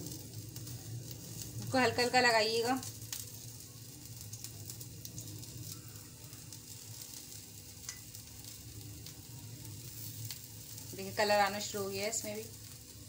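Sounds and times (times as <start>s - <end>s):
faint crackles: 0.0s - 13.0s
meat sizzling in grill pan: 0.0s - 13.0s.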